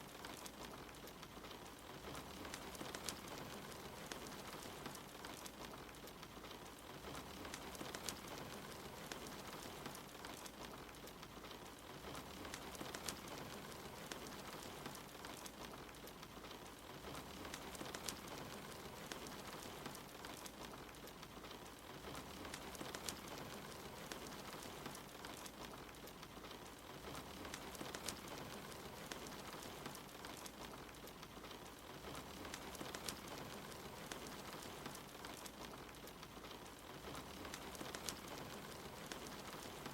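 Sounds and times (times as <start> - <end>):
fireplace crackling: 0.0 - 39.9
soft rain: 0.0 - 39.9.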